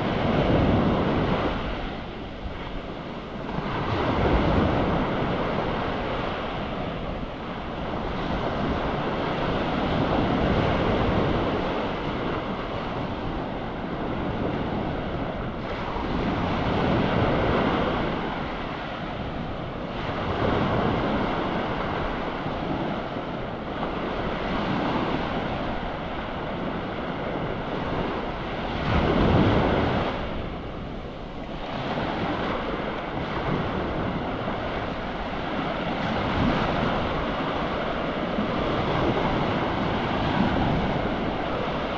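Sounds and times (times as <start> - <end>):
sea waves breaking on beach: 0.0 - 41.9
wind buffeting microphone: 0.0 - 41.9.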